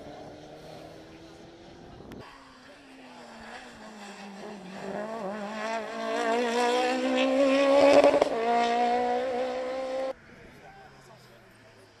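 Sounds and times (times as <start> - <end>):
rally car passing at speed: 0.0 - 10.6.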